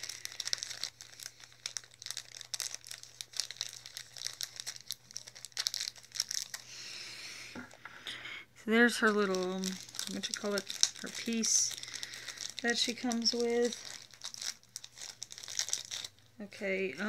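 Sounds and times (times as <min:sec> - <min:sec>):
plastic packaging crinkling: 0:00.0 - 0:06.8, 0:08.9 - 0:16.3.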